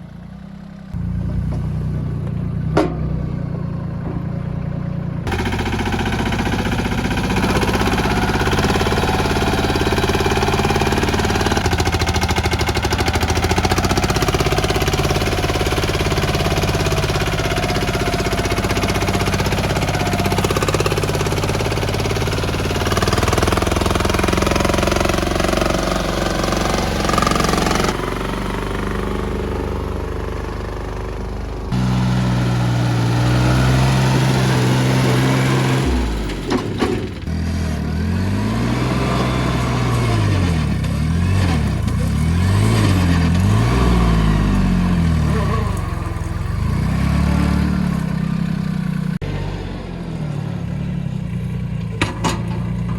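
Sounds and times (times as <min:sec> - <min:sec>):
mini-tractor engine clattering: 0:00.0 - 0:52.9.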